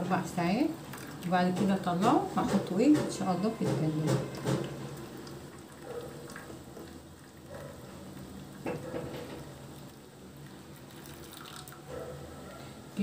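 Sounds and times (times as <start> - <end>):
water trickling into metal tray: 0.4 - 8.8, 9.4 - 11.9.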